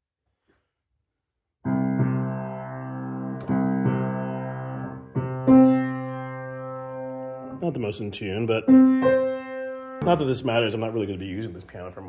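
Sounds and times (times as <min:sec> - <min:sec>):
piano chords ringing: 0:01.7 - 0:11.4.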